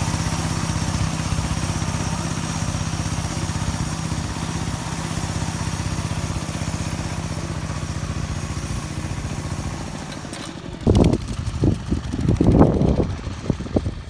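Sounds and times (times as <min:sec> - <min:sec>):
small tractor engine running: 0:00.0 - 0:14.0.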